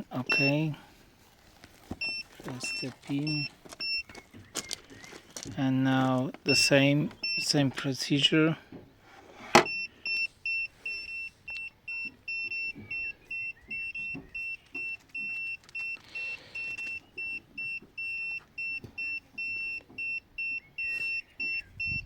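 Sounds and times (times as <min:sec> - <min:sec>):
high electronic warning beeps: 0:00.0 - 0:00.8, 0:02.0 - 0:07.9, 0:09.6 - 0:22.0.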